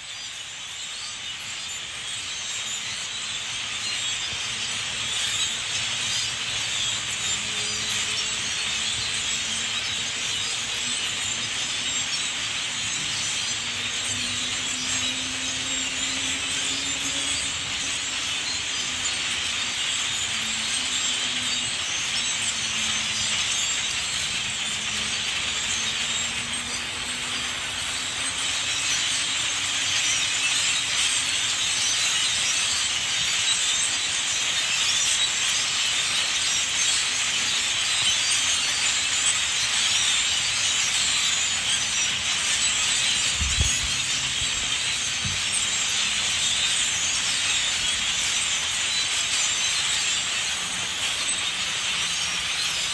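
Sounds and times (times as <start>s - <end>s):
flock of grackles chattering: 0.0s - 52.9s.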